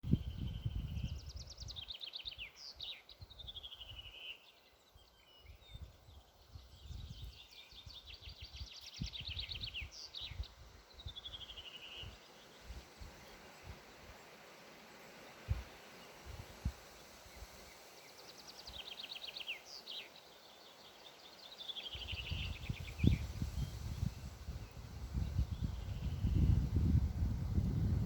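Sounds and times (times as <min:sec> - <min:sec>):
songbird singing trills: 0:00.0 - 0:28.0.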